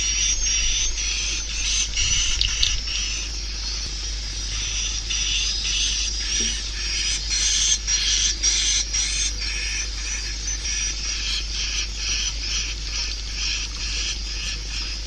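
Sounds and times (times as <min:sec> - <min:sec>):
steady low hum: 0:00.0 - 0:15.0
swiftlet chirps and twitters: 0:00.0 - 0:15.0.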